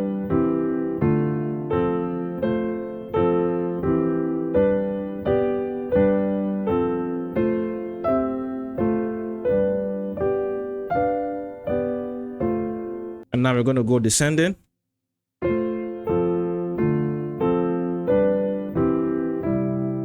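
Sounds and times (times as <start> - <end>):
piano chords: 0.0 - 13.3, 15.4 - 20.0.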